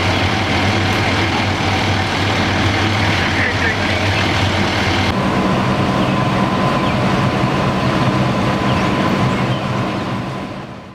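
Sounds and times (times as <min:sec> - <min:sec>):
diesel engine running: 0:00.0 - 0:10.9
thin steady whine: 0:00.0 - 0:10.9.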